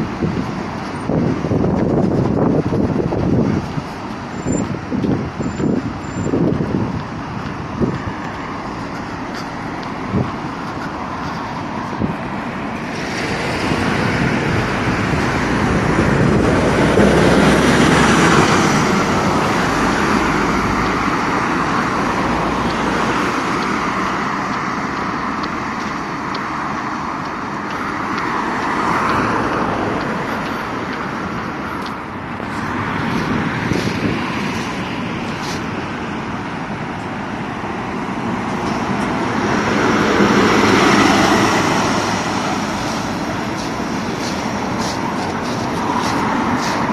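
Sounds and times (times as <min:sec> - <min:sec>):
cars and buses passing: 0:00.0 - 0:46.9.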